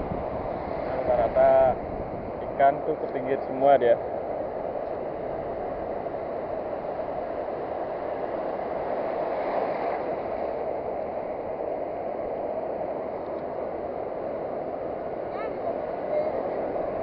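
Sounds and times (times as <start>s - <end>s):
surf washing onto beach: 0.0s - 17.0s.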